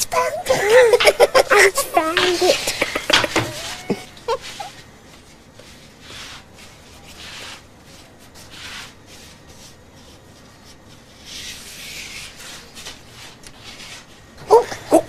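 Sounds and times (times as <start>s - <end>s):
hands rolling dough: 0.0s - 15.0s.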